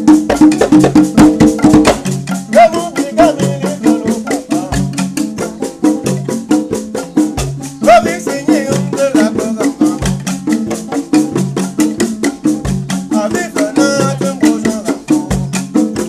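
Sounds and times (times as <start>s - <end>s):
dance music with rattle percussion: 0.0s - 16.0s.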